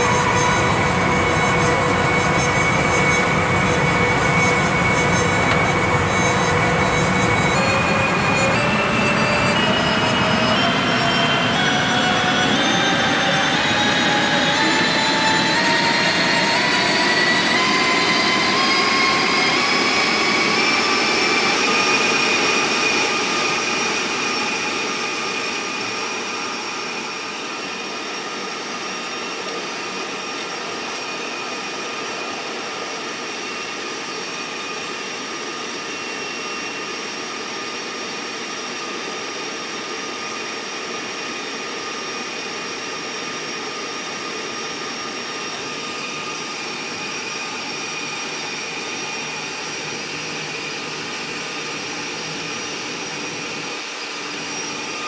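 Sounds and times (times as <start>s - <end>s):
sped-up train running noise: 0.0s - 55.0s.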